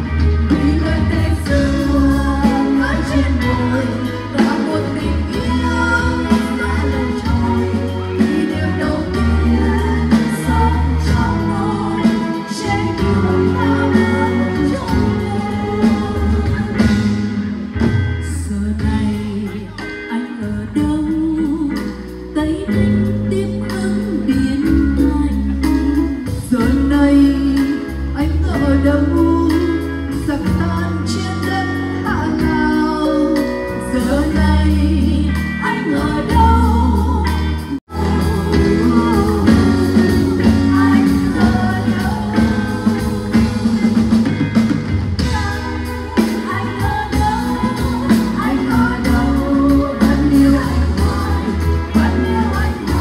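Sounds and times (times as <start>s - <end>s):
person singing with live band: 0.0s - 53.0s.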